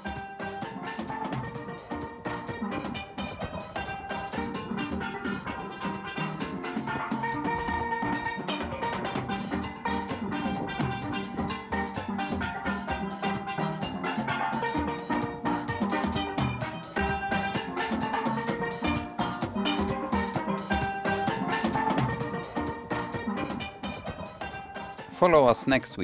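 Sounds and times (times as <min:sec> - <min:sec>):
steady drum beat: 0:00.0 - 0:26.0
steel drum music: 0:00.0 - 0:26.0.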